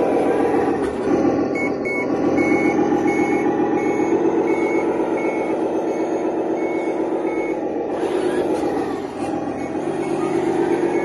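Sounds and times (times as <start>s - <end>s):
reversing beeper: 0.0s - 11.0s
simulated diesel engine running: 0.0s - 11.0s.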